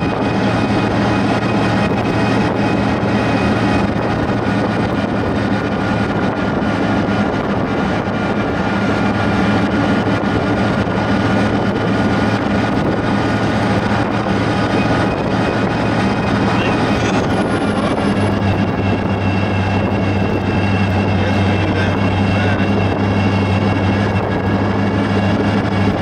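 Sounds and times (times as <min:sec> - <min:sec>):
car engine cruising: 0:00.0 - 0:26.0
wind and road noise: 0:00.0 - 0:26.0.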